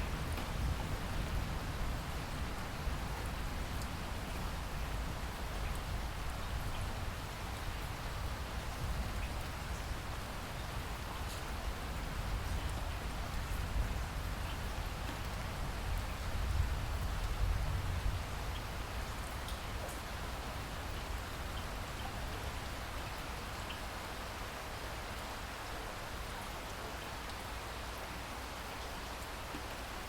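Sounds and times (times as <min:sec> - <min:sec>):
raindrops ticking on surfaces: 0:00.0 - 0:30.0
steady rainfall: 0:00.0 - 0:30.0.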